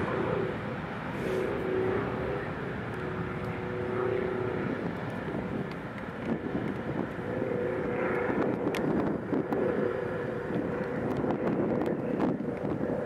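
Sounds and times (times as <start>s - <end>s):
jet engines at take-off power: 0.0s - 13.0s.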